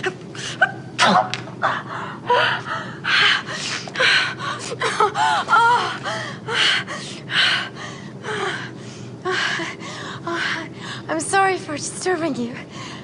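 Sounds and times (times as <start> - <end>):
woman gasping and moaning: 0.0 - 11.1.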